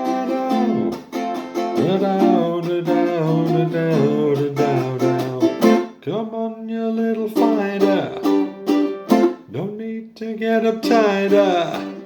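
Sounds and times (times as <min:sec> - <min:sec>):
acoustic string instrument strummed: 0:00.0 - 0:12.0
person singing: 0:00.0 - 0:12.0.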